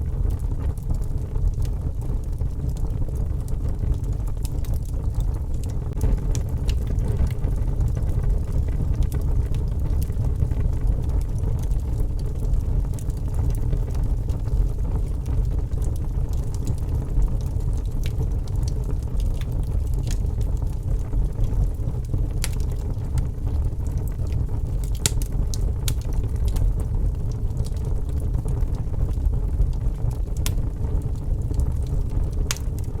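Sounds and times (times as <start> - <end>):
low rumble: 0.0 - 33.0
wood fire crackling: 0.0 - 33.0.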